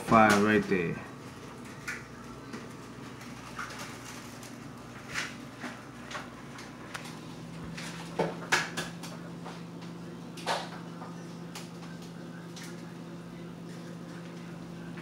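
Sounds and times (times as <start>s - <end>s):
aquarium filter bubbling: 0.0s - 15.0s
steady low hum: 0.0s - 15.0s.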